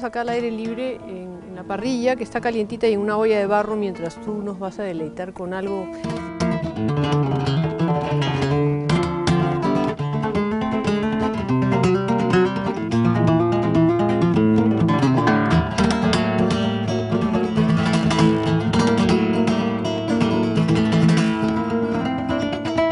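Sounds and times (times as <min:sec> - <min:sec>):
flamenco guitar: 0:00.0 - 0:22.9.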